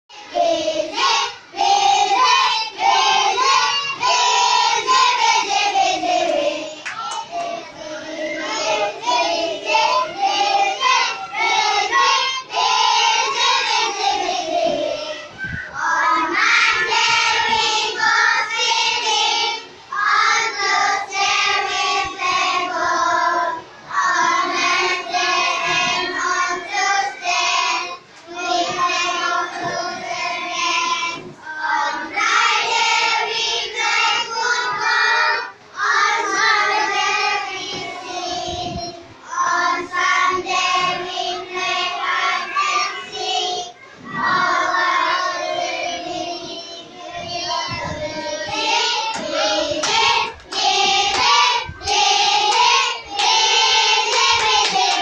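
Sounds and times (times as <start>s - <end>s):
children singing: 0.1s - 55.0s.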